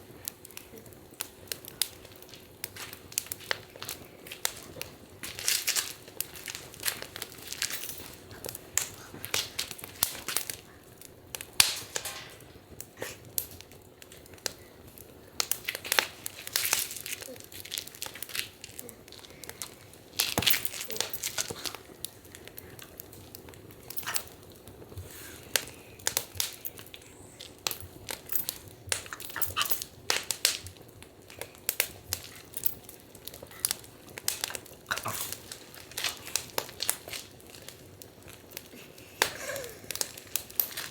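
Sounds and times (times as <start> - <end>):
faint steady hiss: 0.0 - 40.9
wood fire crackling and popping: 0.0 - 40.9.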